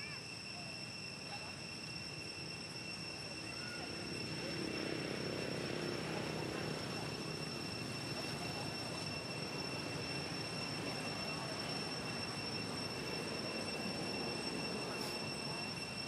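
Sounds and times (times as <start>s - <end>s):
faint chirps: 0.0s - 16.0s
high-pitched whine: 0.0s - 16.0s.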